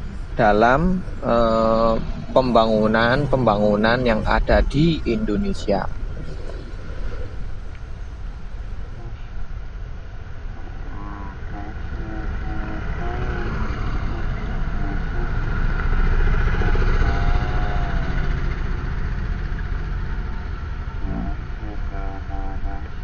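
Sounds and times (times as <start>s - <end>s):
faint voices: 0.0s - 7.5s, 8.8s - 9.4s, 10.6s - 18.9s, 20.2s - 23.0s
truck engine rumbling: 0.0s - 23.0s.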